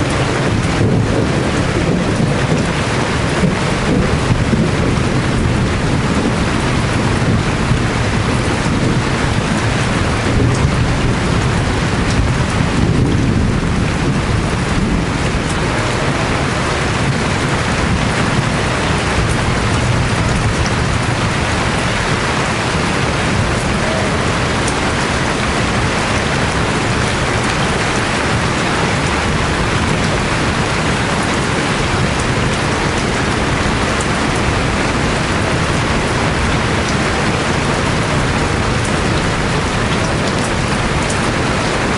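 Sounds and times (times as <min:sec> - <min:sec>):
low rumble of thunder: 0:00.0 - 0:41.9
steady rain: 0:00.0 - 0:41.9.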